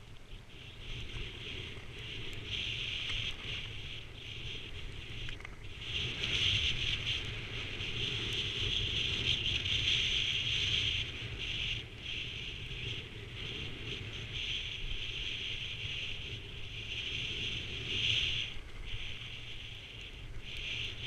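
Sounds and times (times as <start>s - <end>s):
skis scraping over snow: 0.0s - 21.0s
wind rumble on microphone: 0.0s - 21.0s.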